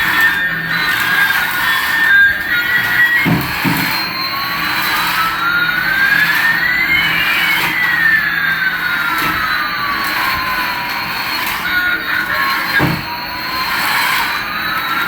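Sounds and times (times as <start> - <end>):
toy motor whining: 0.0 - 15.0.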